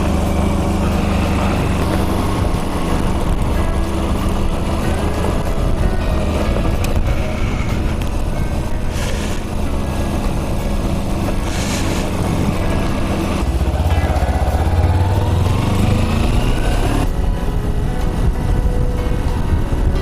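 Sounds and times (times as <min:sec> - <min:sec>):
motorcycle engine running: 0:00.0 - 0:20.0
rushing wind: 0:00.0 - 0:20.0.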